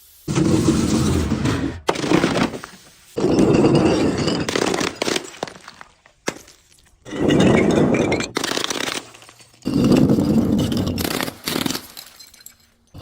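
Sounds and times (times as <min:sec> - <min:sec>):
crunchy objects being crushed: 0:01.8 - 0:12.3.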